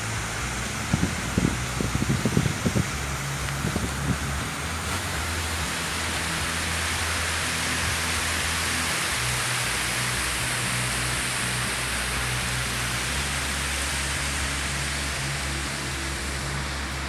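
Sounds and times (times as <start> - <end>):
stream rushing over boulders: 0.0 - 17.0.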